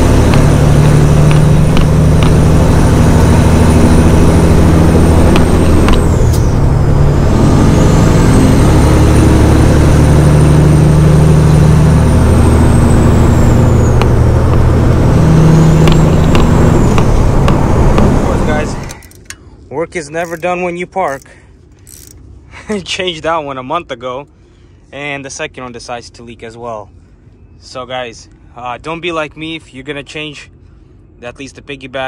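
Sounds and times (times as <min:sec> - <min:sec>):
diesel truck engine: 0:00.0 - 0:32.0.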